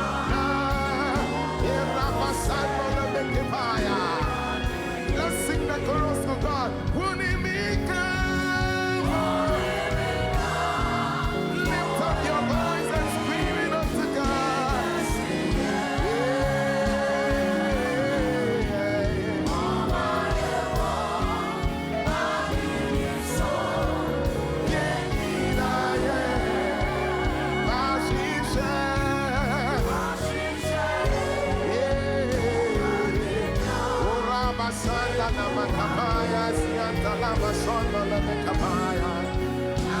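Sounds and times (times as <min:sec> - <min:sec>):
gospel singing voices: 0:00.0 - 0:40.0
instrumental backing: 0:00.0 - 0:40.0.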